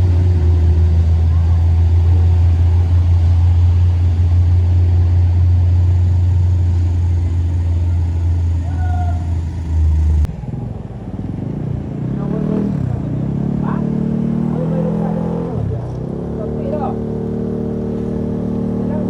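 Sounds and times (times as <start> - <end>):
large engine droning: 0.0 - 19.0
quieter engine running: 0.0 - 19.0.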